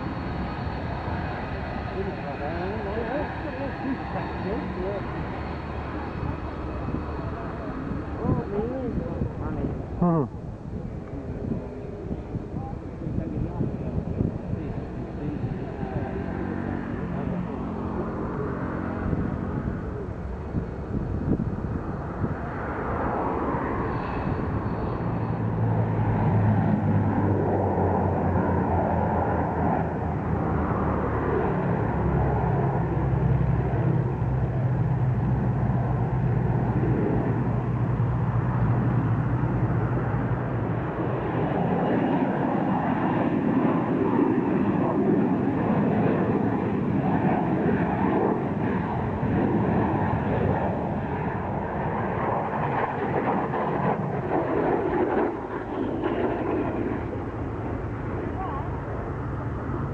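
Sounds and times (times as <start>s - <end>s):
jet engine roaring: 0.0s - 59.9s.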